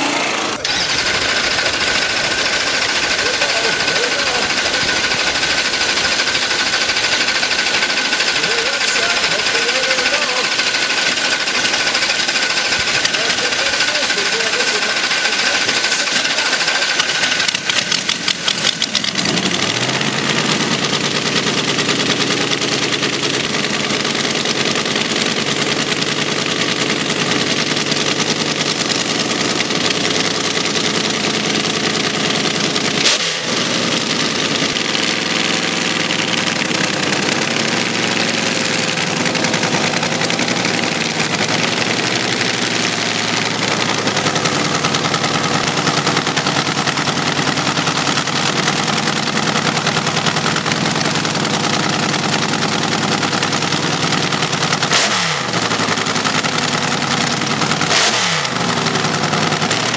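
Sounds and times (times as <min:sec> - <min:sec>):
dragster engines idling: 0:00.0 - 0:59.9.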